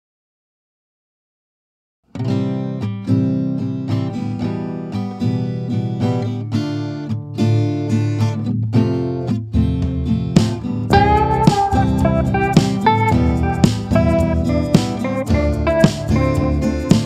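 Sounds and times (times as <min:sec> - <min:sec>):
acoustic guitar strummed: 0:02.1 - 0:17.0.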